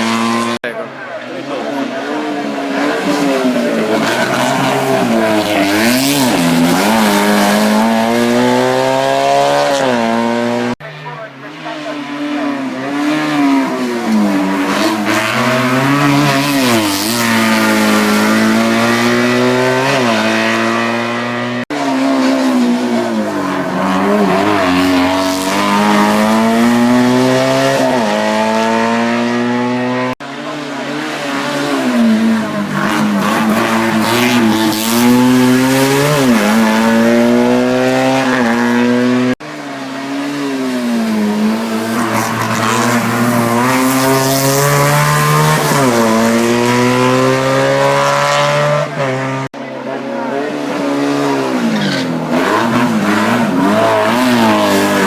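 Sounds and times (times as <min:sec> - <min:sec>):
racing car engine at high revs: 0:00.0 - 0:55.0.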